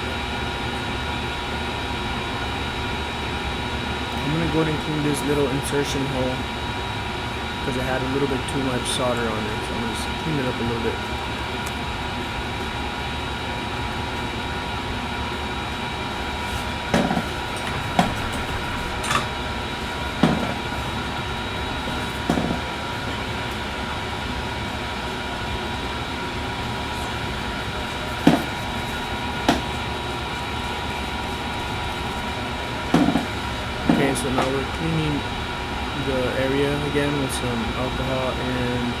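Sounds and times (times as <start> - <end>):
faint high whine: 0.0 - 39.0
fan-like whirring hum: 0.0 - 39.0.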